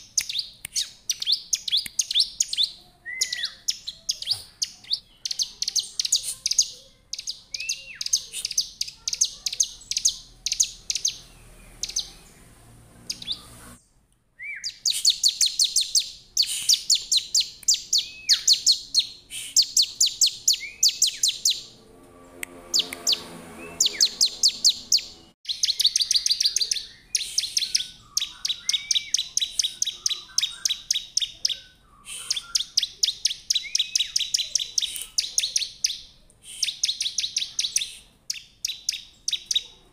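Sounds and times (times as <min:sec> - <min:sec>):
bird singing high chipping notes: 0:00.0 - 0:13.9, 0:14.5 - 0:39.6.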